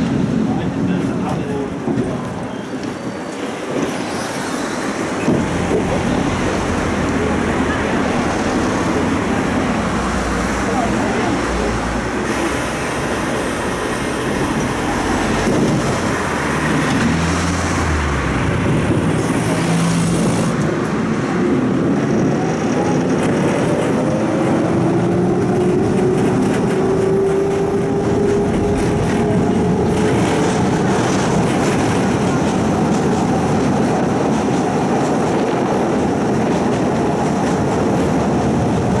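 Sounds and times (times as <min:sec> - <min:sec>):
tram wheels rumbling on rails: 0:00.0 - 0:39.0.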